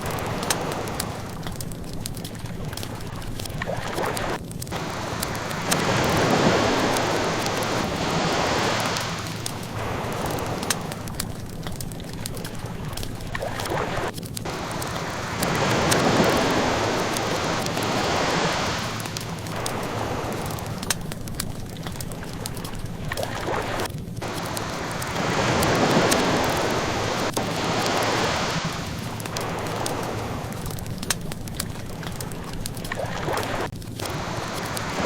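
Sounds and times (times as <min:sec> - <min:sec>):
ocean waves washing in: 0:00.0 - 0:35.0
wood fire crackling and popping: 0:00.0 - 0:35.0.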